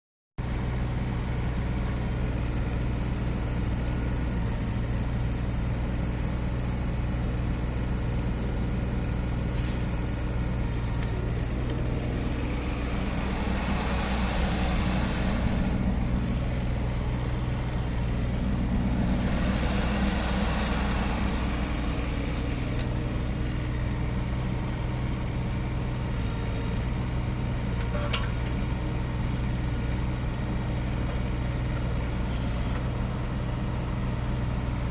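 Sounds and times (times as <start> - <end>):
small diesel engine running: 0.4 - 34.9.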